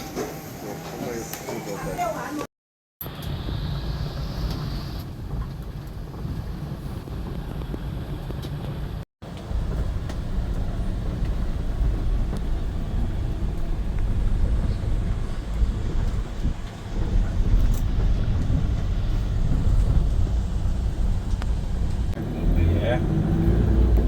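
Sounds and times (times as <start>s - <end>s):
vehicle engine and road noise: 3.0s - 24.0s.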